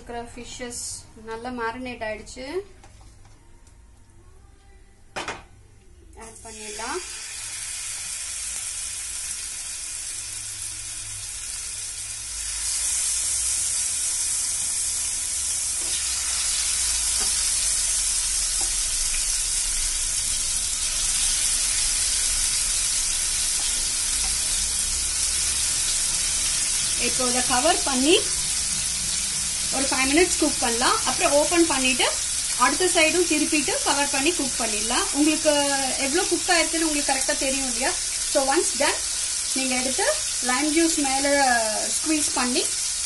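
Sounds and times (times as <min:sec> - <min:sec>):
fish sizzling in hot oil: 0:06.3 - 0:43.0.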